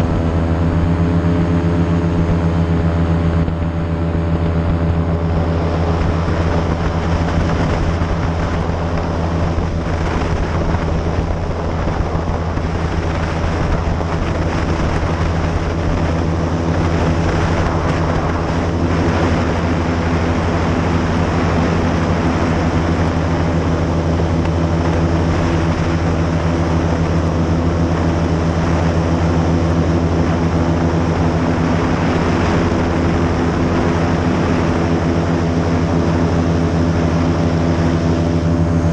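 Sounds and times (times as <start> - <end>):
airboat engine and propeller drone: 0.0 - 38.9.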